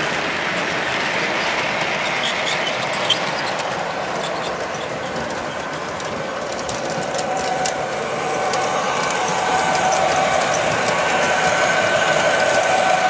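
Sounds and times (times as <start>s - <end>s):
light clicks of train track: 0.0s - 13.0s
model train whirring rumble: 0.0s - 13.0s.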